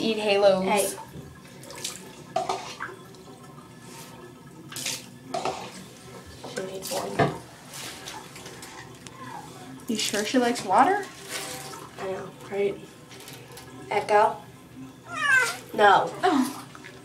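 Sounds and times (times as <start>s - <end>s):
water splashing in bathtub: 0.0s - 17.0s.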